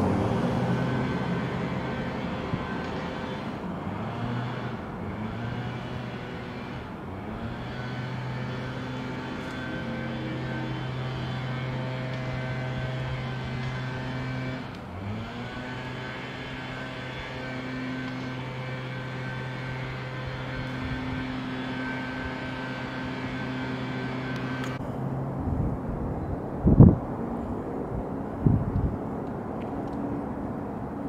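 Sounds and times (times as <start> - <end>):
vehicle engine droning: 0.0 - 31.0.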